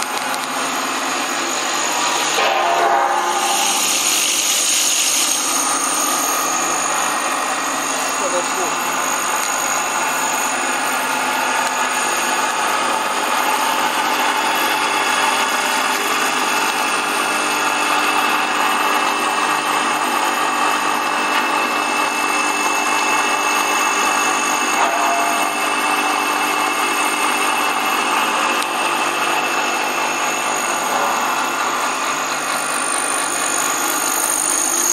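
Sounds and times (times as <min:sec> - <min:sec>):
grinding mill machine whine: 0:00.0 - 0:34.9.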